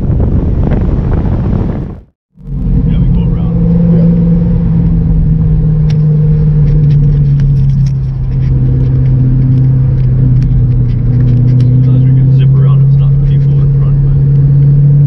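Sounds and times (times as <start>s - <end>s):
car engine cruising: 0.0s - 15.0s.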